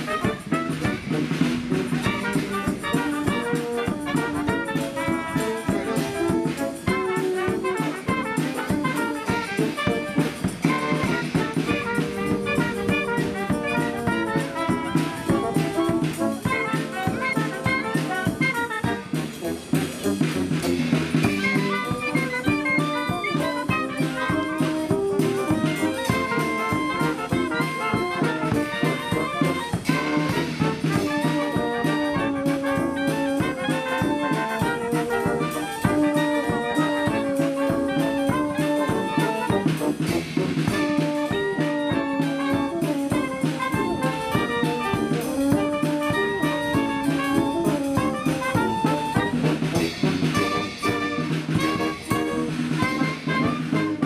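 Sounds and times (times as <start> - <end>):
military brass band playing: 0.0 - 54.0.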